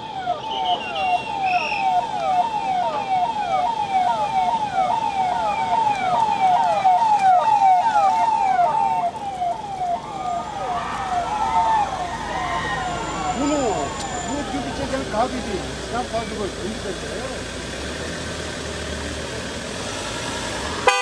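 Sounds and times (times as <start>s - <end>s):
police sirens sweeping: 0.0s - 21.0s.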